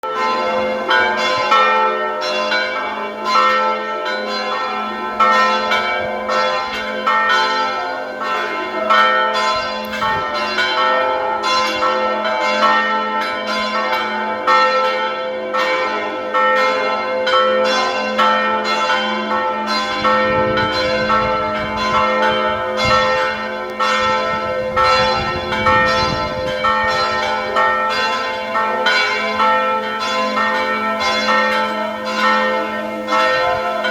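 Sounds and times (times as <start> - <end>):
church bells pealing: 0.0 - 33.9.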